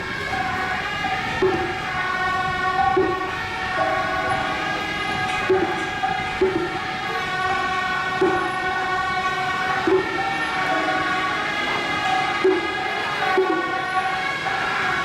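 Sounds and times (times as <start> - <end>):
shawm band playing: 0.0 - 15.0.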